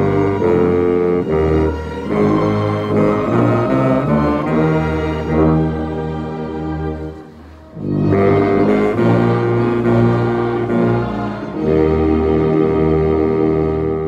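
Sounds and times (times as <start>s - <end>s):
baritone saxophone playing hymn: 0.0s - 14.0s
instruments playing chords: 0.0s - 14.0s.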